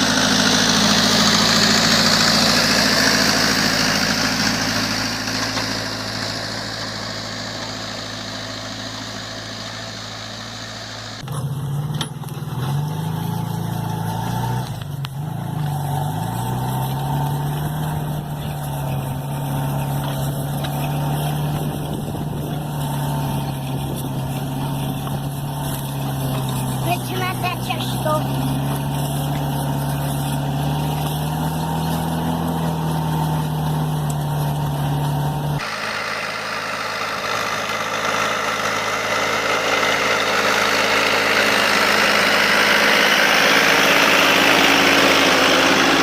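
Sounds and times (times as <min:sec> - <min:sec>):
engine with wavering pitch: 0:00.0 - 0:46.0
small tractor engines running: 0:00.0 - 0:46.0.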